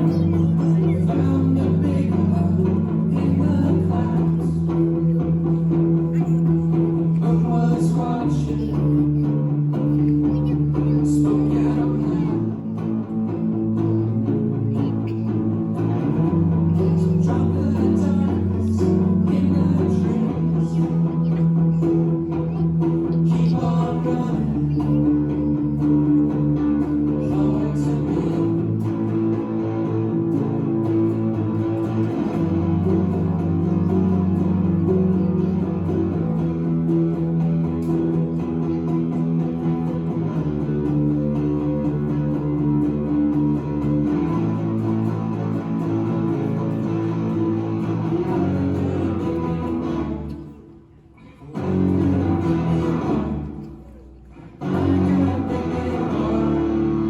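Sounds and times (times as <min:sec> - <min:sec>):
bass notes: 0:00.0 - 0:57.0
strummed electric guitar chords: 0:00.0 - 0:57.0.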